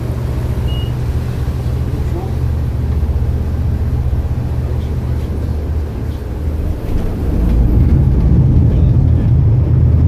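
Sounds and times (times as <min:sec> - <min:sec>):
boat engines rumbling: 0:00.0 - 0:10.0.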